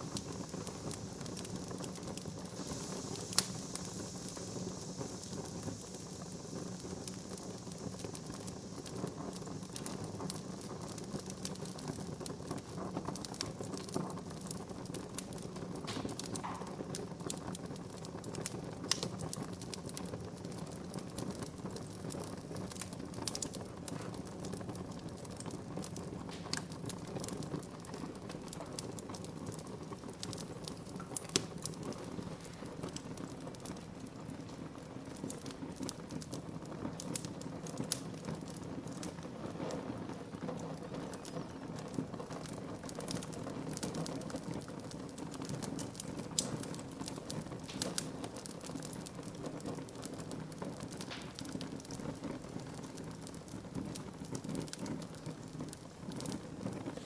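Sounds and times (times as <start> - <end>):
low rush of flames: 0.0 - 57.0
wood crackling and popping: 0.0 - 57.0.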